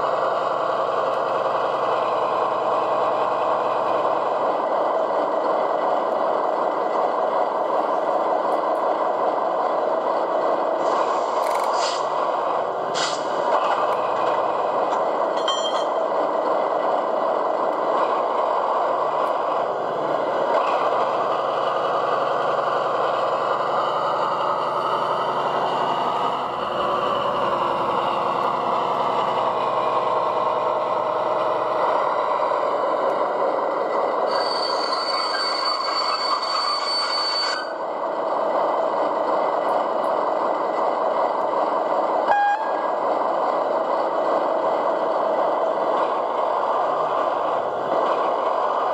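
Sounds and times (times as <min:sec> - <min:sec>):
model locomotive diesel engine sound: 0:00.0 - 0:48.9.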